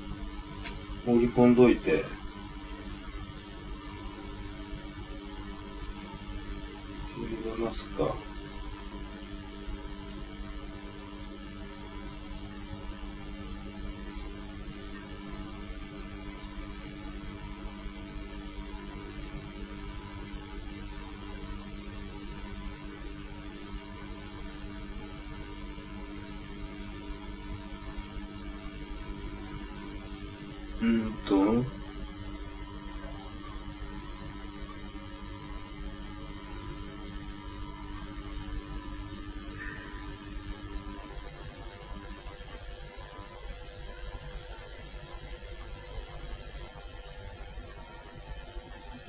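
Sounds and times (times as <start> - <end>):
electrical hum: 0.0 - 49.0
faint steady tones: 0.0 - 49.0.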